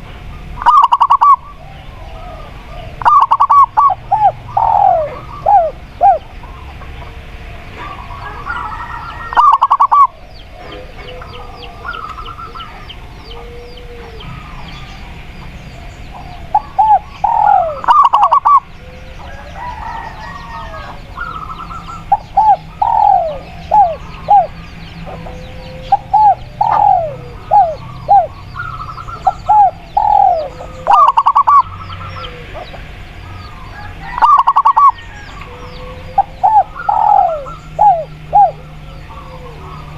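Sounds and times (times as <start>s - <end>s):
lower dove coo: 0.0s - 39.9s
small birds chirping faintly: 0.0s - 39.9s
doves cooing in quick runs: 0.6s - 14.6s, 16.2s - 32.9s, 33.5s - 39.9s.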